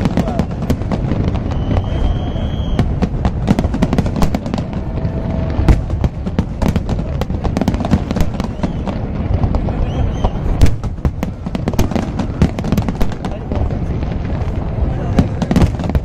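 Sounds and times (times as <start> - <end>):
fireworks bursting and crackling: 0.0 - 16.0
loud firework bang: 0.0 - 16.0
low rumble: 0.0 - 16.0.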